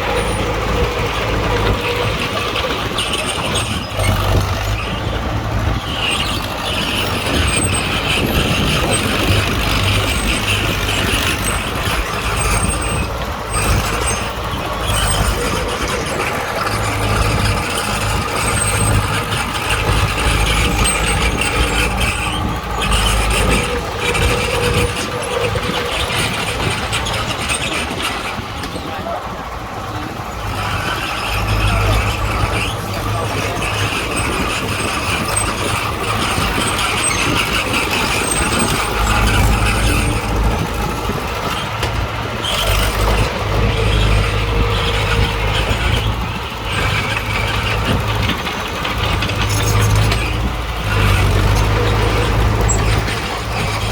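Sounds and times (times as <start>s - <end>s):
bulldozer diesel engine rumbling: 0.0s - 53.9s.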